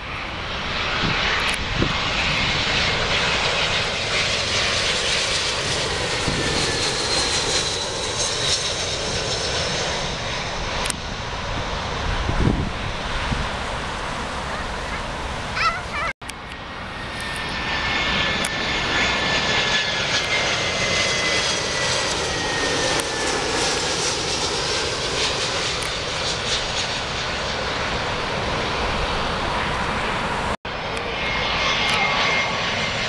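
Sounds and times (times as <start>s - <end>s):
jet airliner roar overhead: 0.0s - 33.0s
jet engine whine: 0.0s - 33.0s.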